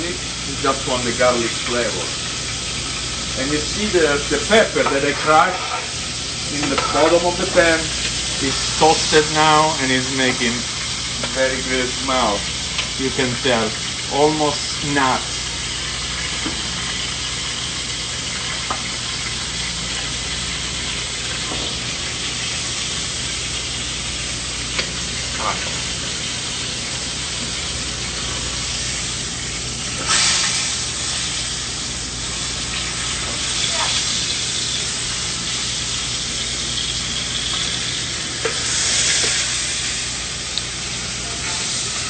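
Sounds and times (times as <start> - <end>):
meat sizzling in a pan: 0.0 - 42.0.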